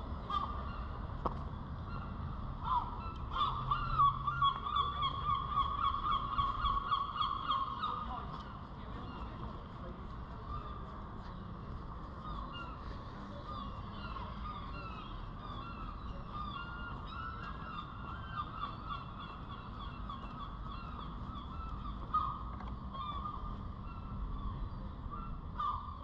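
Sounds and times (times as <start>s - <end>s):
flock of birds calling: 0.0s - 26.0s
low background rumble: 0.0s - 26.0s.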